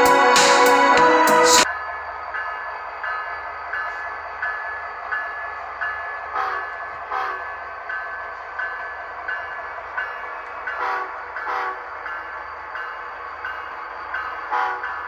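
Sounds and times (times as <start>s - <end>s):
locomotive bell ringing: 0.0s - 15.0s.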